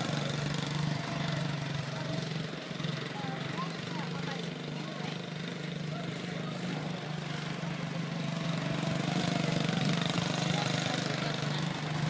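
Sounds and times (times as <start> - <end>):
small race car engine running: 0.0 - 12.0.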